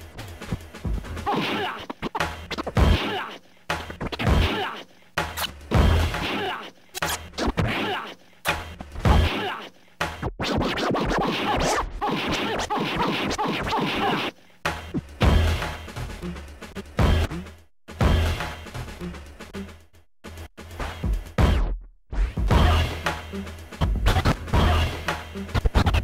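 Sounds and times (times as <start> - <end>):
drum groove: 0.0 - 26.0
turntable scratching: 0.0 - 26.0.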